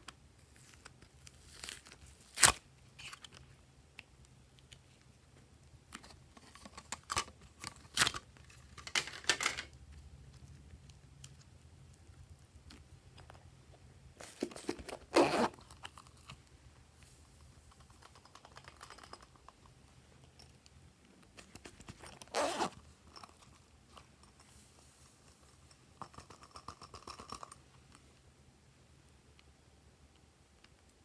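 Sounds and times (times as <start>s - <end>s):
crackling rustling handling noises: 0.0s - 28.2s.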